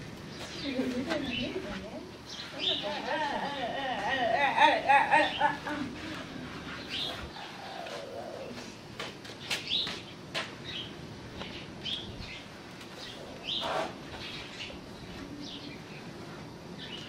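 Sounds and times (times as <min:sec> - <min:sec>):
small birds chirping: 0:00.2 - 0:04.3, 0:05.2 - 0:17.0.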